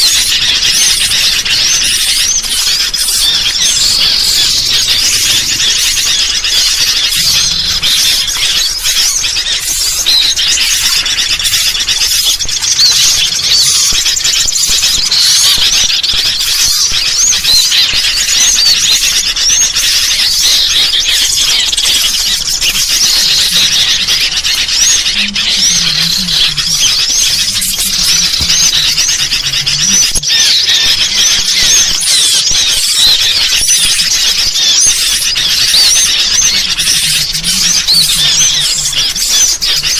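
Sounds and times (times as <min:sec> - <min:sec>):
bulbuls chattering: 0:00.0 - 0:39.9
small birds chirping and whistling: 0:00.0 - 0:39.9.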